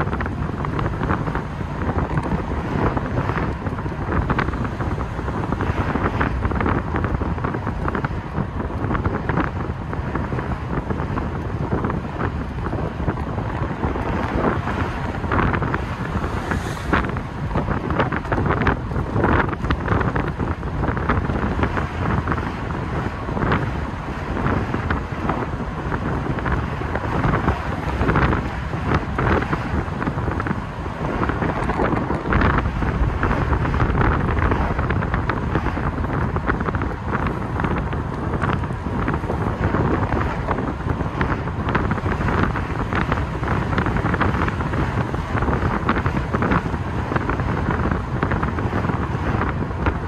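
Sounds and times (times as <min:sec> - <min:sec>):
car engine running: 0:00.0 - 0:50.0
wind buffeting microphone: 0:00.0 - 0:50.0.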